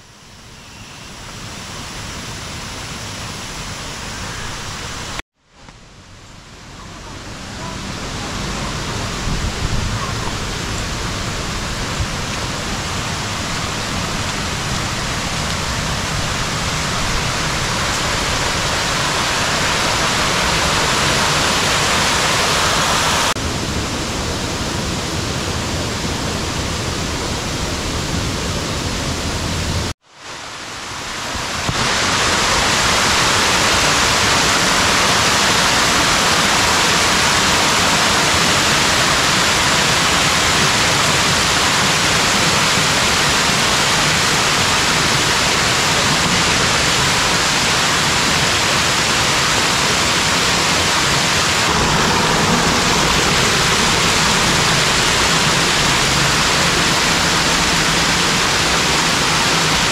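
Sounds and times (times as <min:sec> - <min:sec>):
waterfall rushing: 0:01.2 - 0:05.2, 0:06.0 - 0:59.9.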